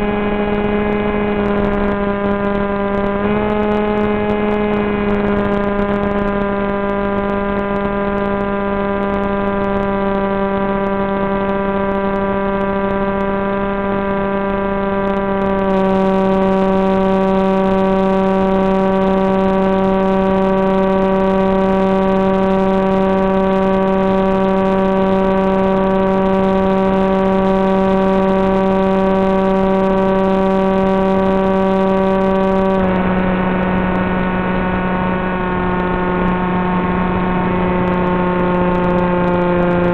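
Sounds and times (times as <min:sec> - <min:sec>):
electric motor and propeller buzzing: 0:00.0 - 0:39.9.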